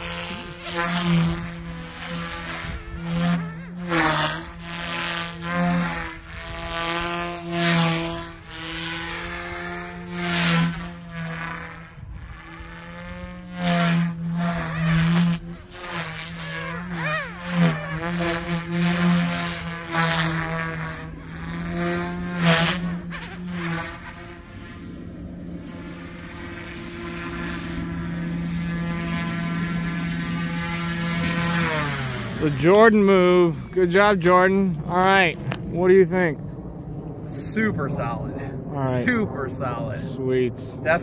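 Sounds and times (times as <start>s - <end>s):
rc helicopter buzzing whine: 0.0s - 41.0s.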